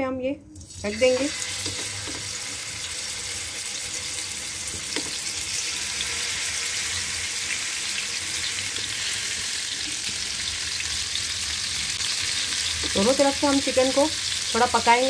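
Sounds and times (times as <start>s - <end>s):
chicken sizzling in hot oil: 0.7s - 15.0s.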